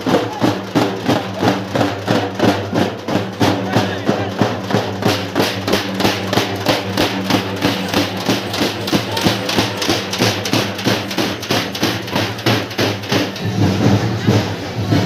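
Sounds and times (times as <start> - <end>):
procession drum music: 0.0 - 15.0.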